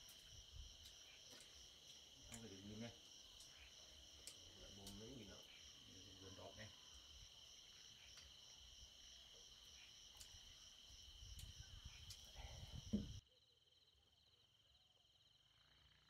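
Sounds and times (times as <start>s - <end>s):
night insects trilling: 0.0s - 16.0s.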